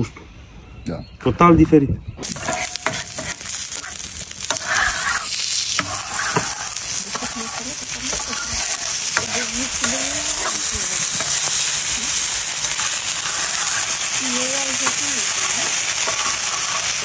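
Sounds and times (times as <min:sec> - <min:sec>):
steaks sizzling on a griddle: 0:02.2 - 0:17.0.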